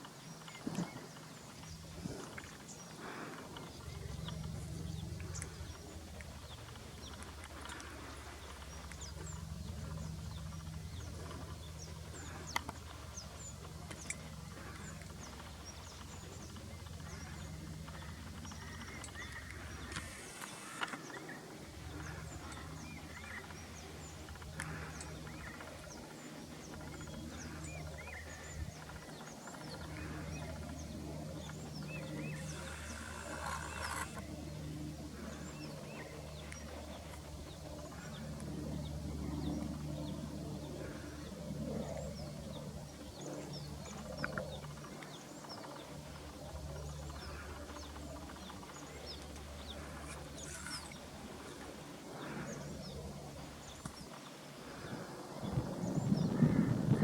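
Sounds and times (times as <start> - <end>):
birds chirping: 0.0 - 57.0
steady low hum: 0.0 - 57.0.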